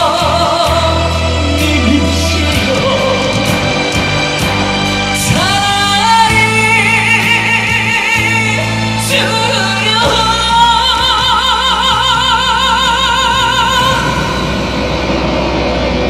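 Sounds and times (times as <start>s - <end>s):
man singing with vibrato: 0.0s - 4.0s, 5.1s - 14.8s
band backing track: 0.0s - 16.0s.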